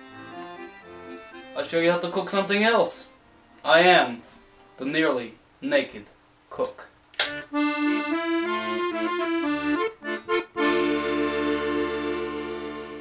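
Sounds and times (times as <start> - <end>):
accordion folk tune: 0.0 - 5.0, 7.2 - 13.0.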